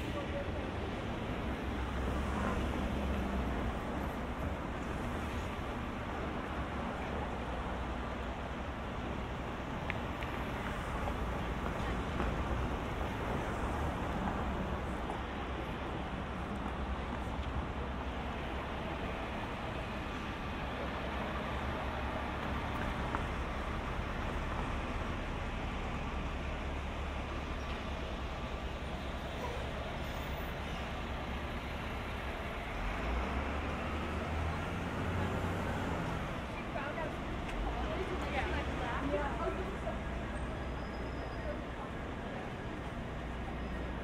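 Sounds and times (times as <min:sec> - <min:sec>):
hum of passing vehicles: 0:00.0 - 0:08.1, 0:09.0 - 0:40.6
city street traffic rumble: 0:00.0 - 0:44.0.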